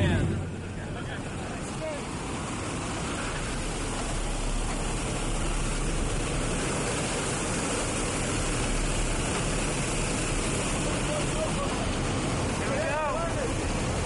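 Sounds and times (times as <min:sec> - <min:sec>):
aircraft engine noise: 0:00.0 - 0:14.0.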